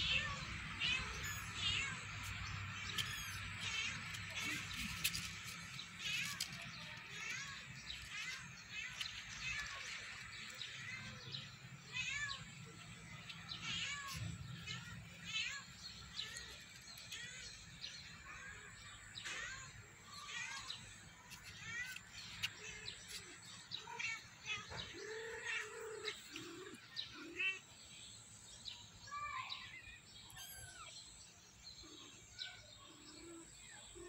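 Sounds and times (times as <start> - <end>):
kittens mewing: 0.0 - 27.7, 30.3 - 31.0
small birds chirping: 0.0 - 34.0.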